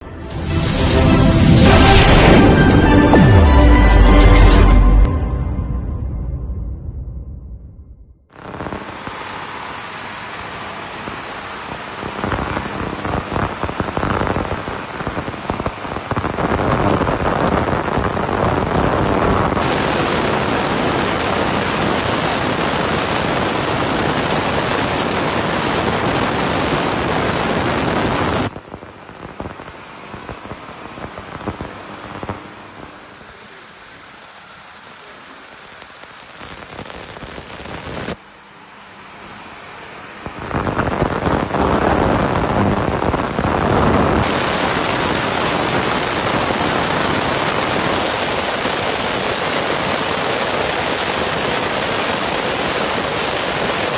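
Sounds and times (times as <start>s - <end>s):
ultrasonic cleaner hissing: 8.3s - 53.9s.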